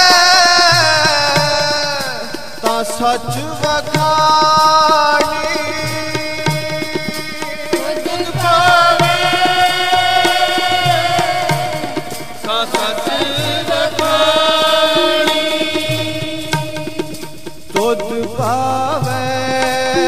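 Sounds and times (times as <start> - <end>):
devotional music with held melody: 0.0 - 20.0
tabla rhythm: 0.0 - 20.0.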